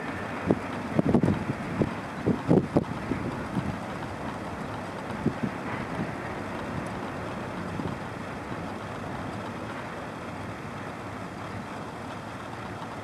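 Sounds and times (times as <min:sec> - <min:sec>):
distant freight train rumble: 0:00.0 - 0:13.0.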